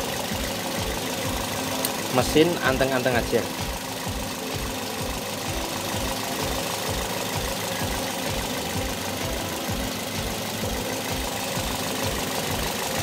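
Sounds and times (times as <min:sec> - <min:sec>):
car engine idling unevenly: 0:00.0 - 0:13.0.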